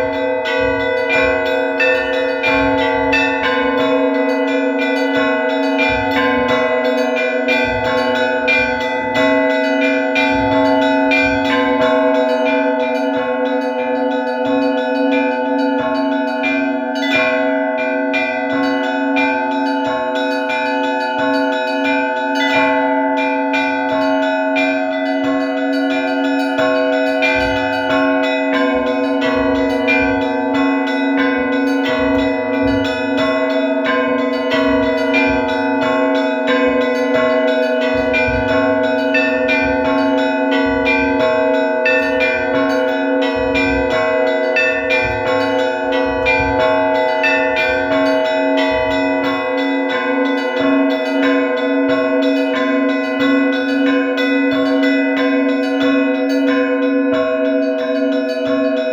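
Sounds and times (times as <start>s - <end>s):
church bells ringing: 0.0s - 58.9s.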